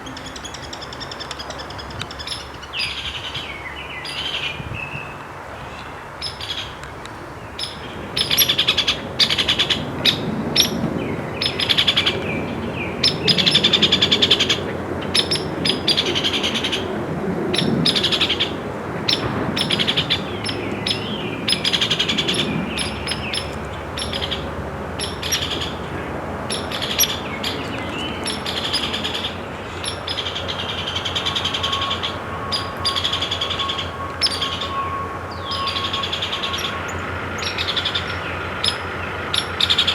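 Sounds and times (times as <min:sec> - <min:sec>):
birds calling in rasping bursts: 0:00.0 - 0:39.9.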